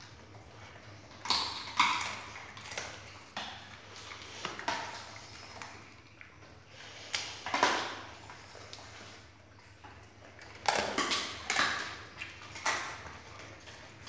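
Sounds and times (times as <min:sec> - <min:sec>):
dog chewing and crunching: 0:00.0 - 0:14.0.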